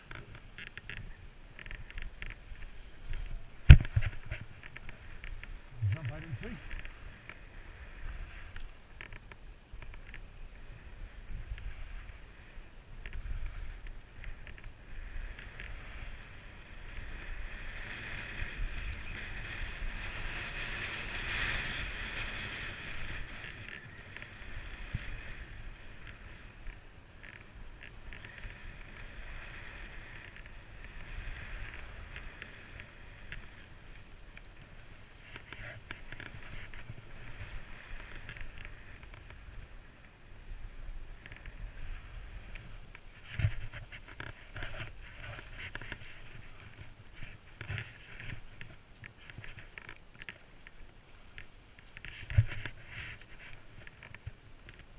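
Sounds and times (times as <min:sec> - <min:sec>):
wind rumbling on microphone: 0:00.0 - 0:54.9.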